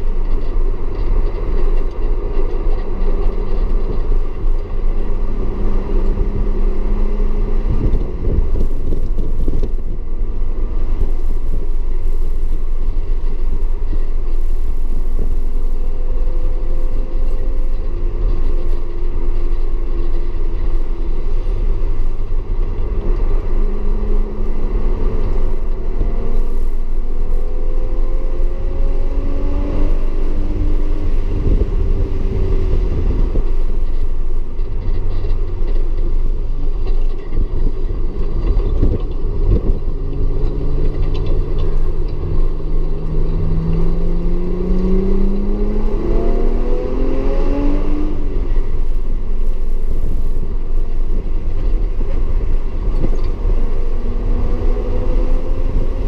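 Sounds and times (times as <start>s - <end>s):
car engine accelerating: 0.0s - 56.0s
road noise: 0.0s - 56.0s.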